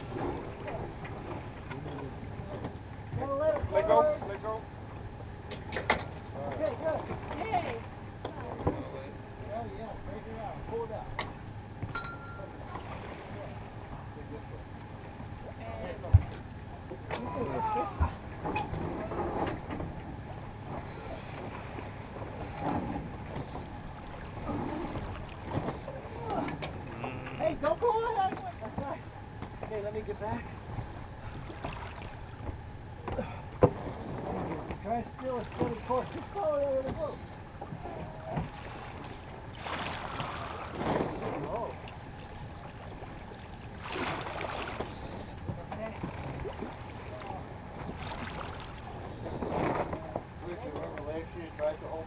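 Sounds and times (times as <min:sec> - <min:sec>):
water washing along hull: 0:00.0 - 0:52.0.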